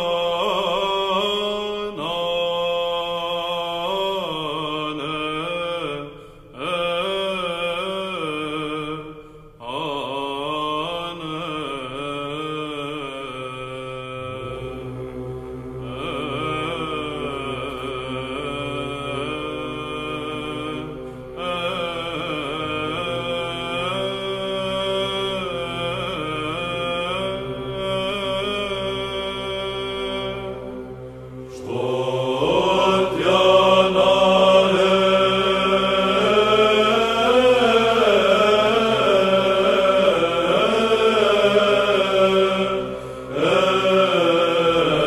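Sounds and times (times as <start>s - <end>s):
church chant singing: 0.0s - 45.0s
low held drone: 0.0s - 45.0s.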